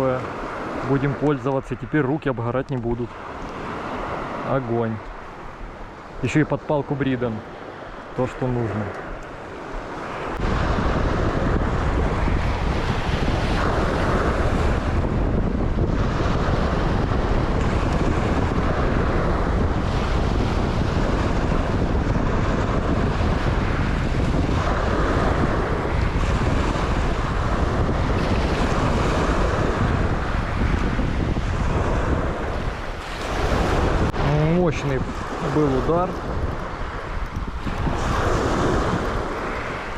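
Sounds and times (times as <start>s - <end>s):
sea surf washing ashore: 0.0s - 39.9s
wind buffeting microphone: 0.0s - 39.9s.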